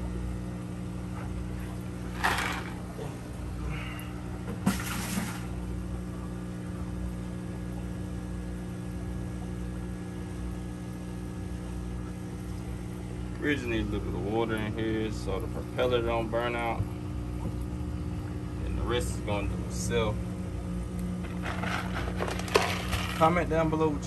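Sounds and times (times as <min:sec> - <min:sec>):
aquarium air pump humming: 0:00.0 - 0:24.0
sponge filter bubbling: 0:00.0 - 0:24.0.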